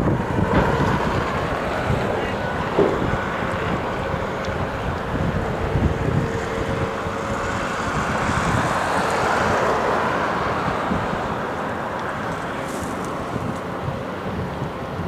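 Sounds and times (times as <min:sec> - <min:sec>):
heavy machinery engines: 0:00.0 - 0:15.0
wind on microphone: 0:00.0 - 0:15.0.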